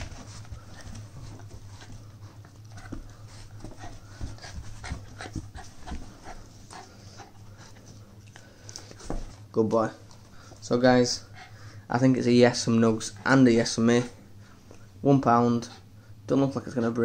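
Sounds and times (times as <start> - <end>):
puppy breathing and noises: 0.0 - 16.3
steady low hum: 0.0 - 17.0.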